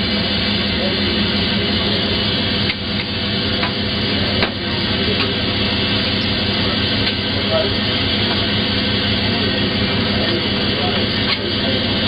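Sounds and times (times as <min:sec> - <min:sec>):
railcar engine drone: 0:00.0 - 0:12.0.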